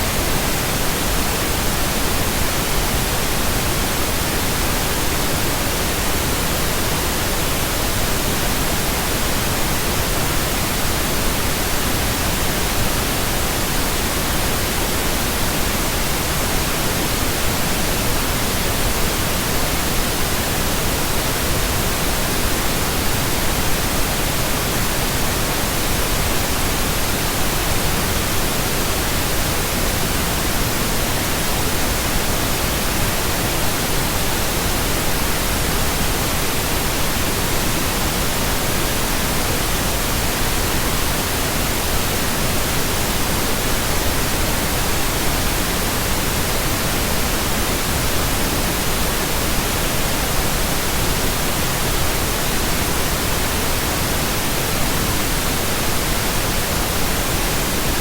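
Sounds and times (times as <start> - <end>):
steady pink noise hiss: 0.0 - 58.0.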